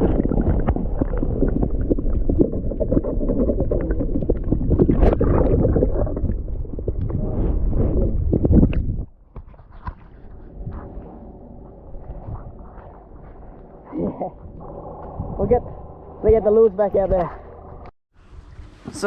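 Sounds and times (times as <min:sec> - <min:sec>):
muffled underwater rushing water: 0:00.0 - 0:19.0.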